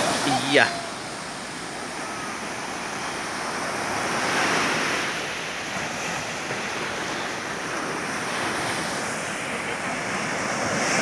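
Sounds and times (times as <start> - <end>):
sea waves washing ashore: 0.0 - 11.0.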